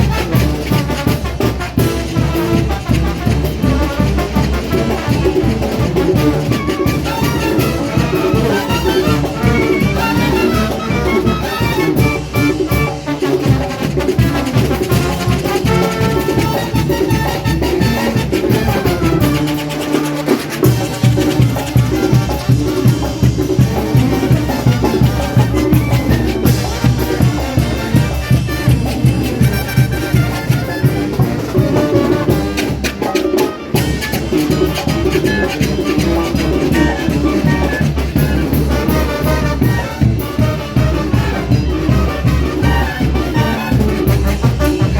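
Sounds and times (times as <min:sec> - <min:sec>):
bass and percussion beat: 0:00.0 - 0:44.9
brass band playing dance tune: 0:00.0 - 0:44.9
trombones: 0:00.0 - 0:44.9
trumpets: 0:00.0 - 0:44.9.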